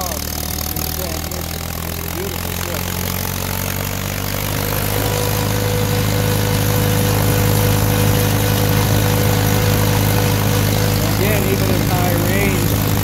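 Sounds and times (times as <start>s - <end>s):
tractor engine at full throttle: 0.0s - 13.0s.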